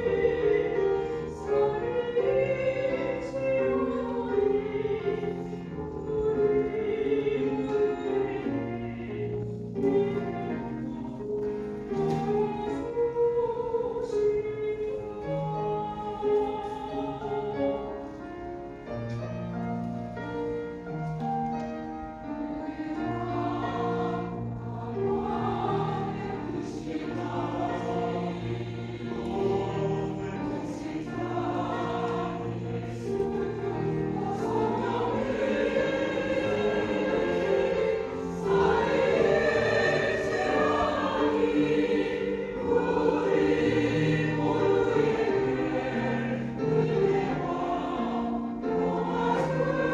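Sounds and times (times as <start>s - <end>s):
church choir singing: 0.0s - 49.9s.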